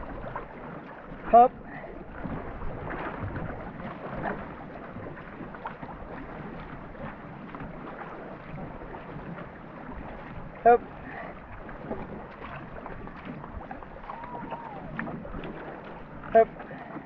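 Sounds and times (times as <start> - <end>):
paddles splashing in water: 0.0 - 17.0.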